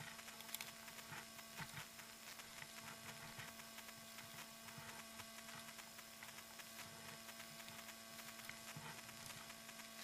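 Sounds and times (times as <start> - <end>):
faint electrical hum: 0.0 - 10.0
faint scattered ticks: 0.0 - 10.0.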